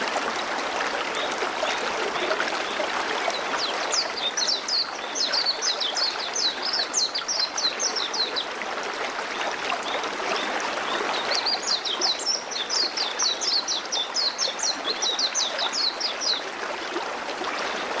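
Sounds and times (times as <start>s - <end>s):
river water running: 0.0s - 18.0s.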